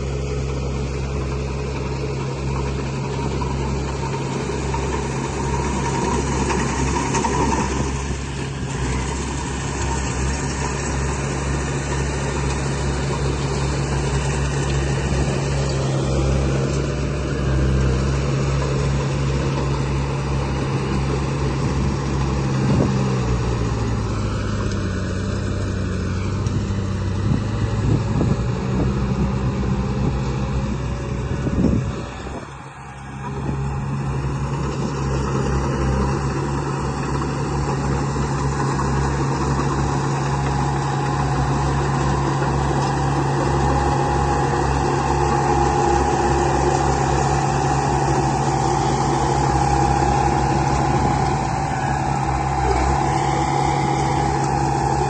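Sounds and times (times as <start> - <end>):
model vehicle engine drone: 0.0 - 55.0.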